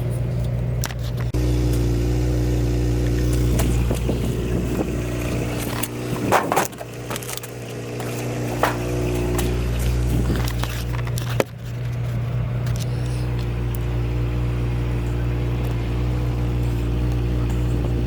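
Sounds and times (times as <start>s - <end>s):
small petrol engine idling: 0.0s - 18.0s.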